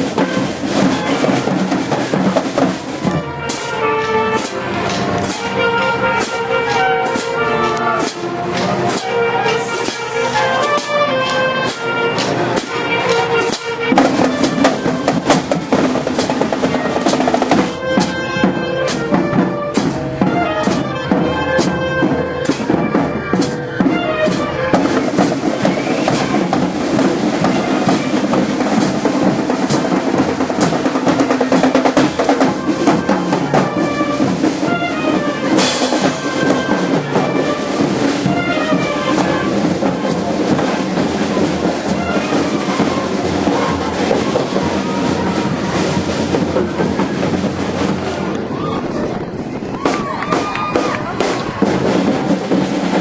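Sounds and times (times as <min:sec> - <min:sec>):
band playing: 0:00.0 - 0:53.0
drums striking: 0:00.0 - 0:53.0.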